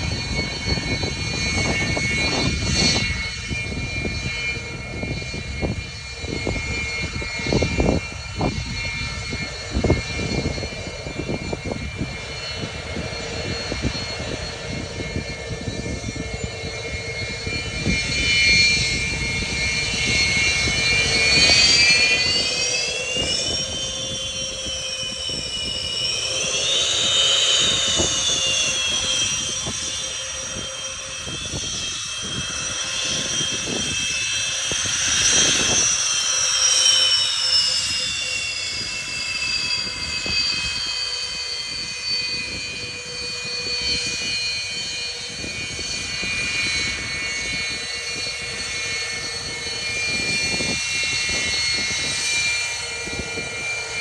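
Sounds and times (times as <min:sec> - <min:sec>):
high jet engine whine: 0:00.0 - 0:54.0
jet fighter engines roaring: 0:00.0 - 0:54.0.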